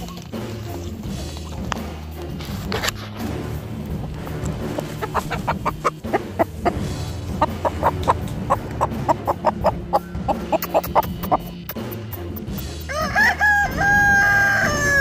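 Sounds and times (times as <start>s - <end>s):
background music: 0.0s - 15.0s
chickens clucking: 0.0s - 15.0s.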